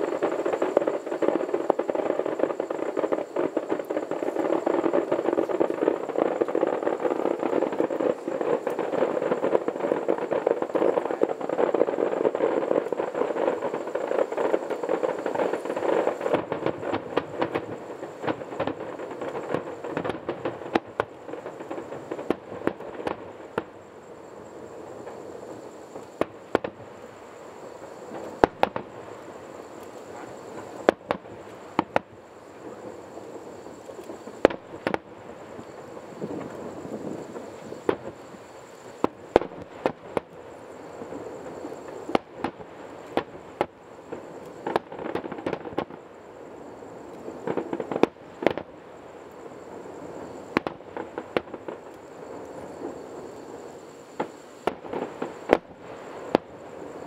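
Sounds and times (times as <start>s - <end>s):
firework bangs: 0.0s - 57.0s
fireworks crackling and popping: 0.0s - 57.0s.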